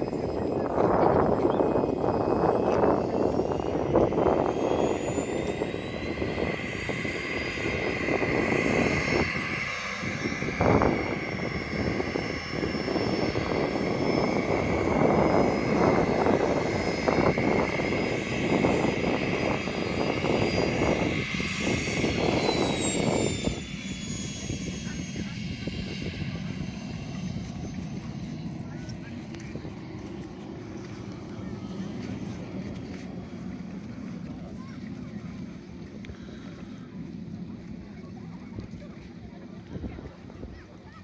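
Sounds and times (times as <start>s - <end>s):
small jet engine whining: 0.0s - 41.0s
wind buffeting microphone: 0.0s - 41.0s.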